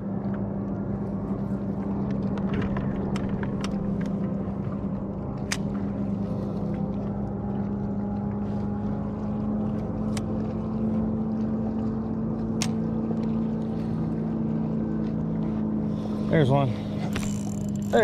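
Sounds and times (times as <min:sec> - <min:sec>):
boat motor humming: 0:00.0 - 0:18.0.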